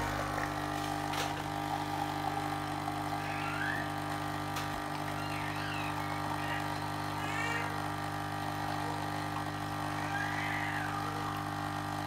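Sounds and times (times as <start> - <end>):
coffee machine pump humming: 0.0 - 12.0.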